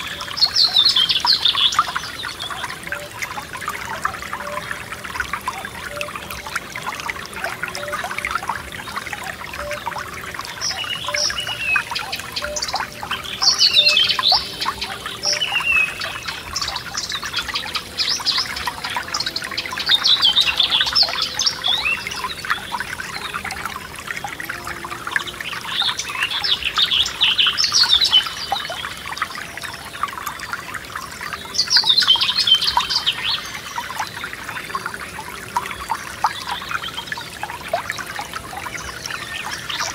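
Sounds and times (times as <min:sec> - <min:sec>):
songbird singing: 0:00.0 - 0:39.9
stream trickling and babbling: 0:00.0 - 0:39.9.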